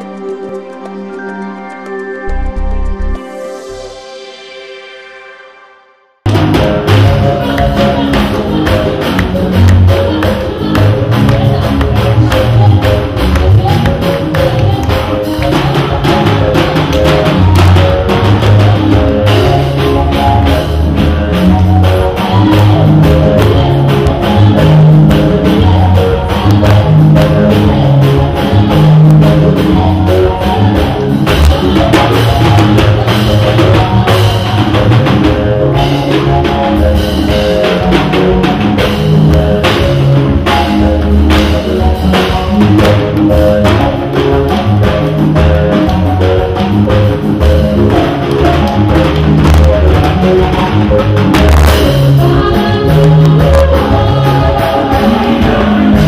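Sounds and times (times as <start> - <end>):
band music: 0.0 - 56.0
drum kit beat: 6.2 - 56.0.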